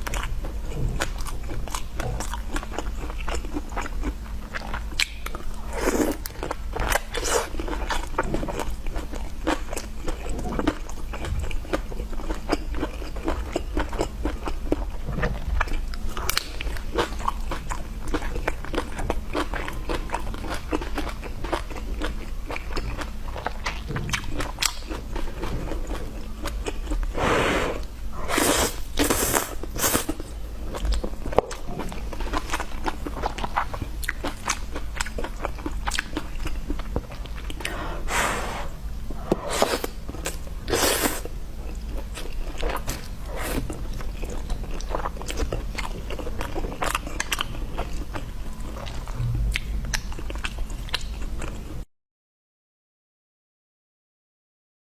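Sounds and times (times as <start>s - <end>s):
chewing crunchy food: 0.0s - 51.8s.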